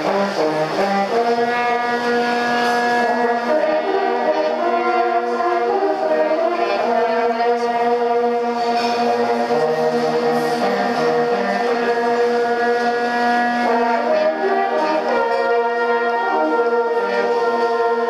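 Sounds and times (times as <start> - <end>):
hunting horns playing in harmony: 0.0 - 18.0.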